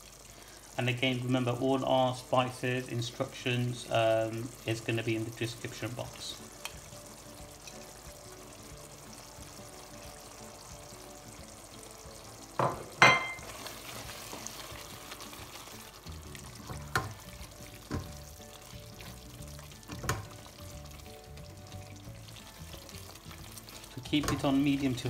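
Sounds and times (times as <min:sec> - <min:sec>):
curry frying hiss: 0:00.0 - 0:25.0.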